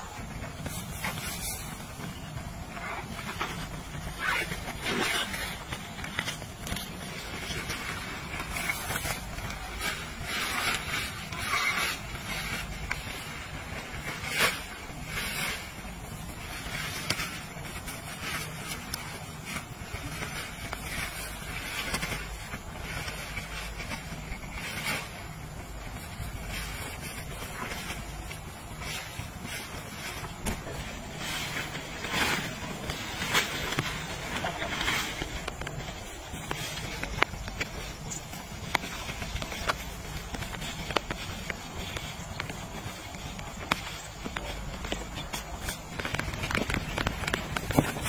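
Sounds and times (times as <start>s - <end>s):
tent fabric rustling: 0.0s - 48.0s
tent frame clacking: 0.0s - 48.0s.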